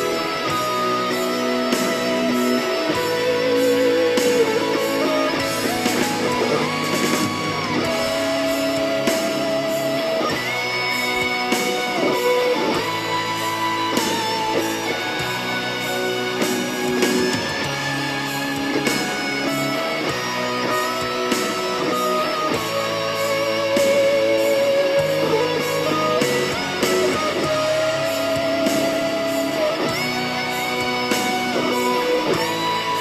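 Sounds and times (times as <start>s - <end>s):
guitar instrumental music: 0.0s - 33.0s.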